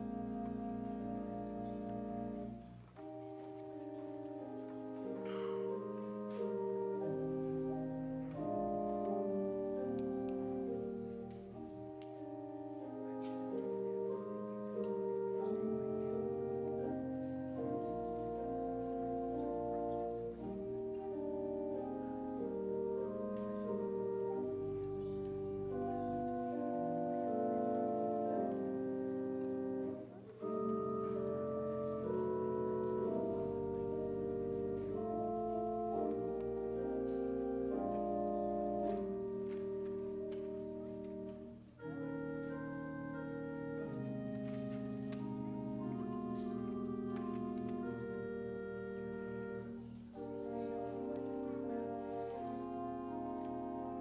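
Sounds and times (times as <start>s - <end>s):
church organ playing chords: 0.0s - 54.0s.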